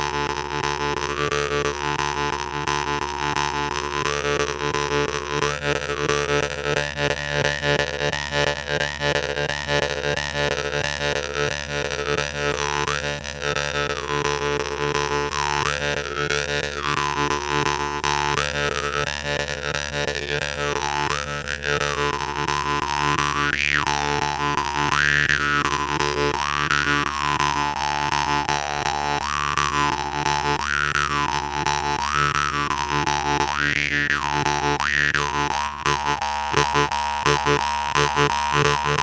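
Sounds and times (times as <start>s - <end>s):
jew's harp drone: 0.0s - 39.0s.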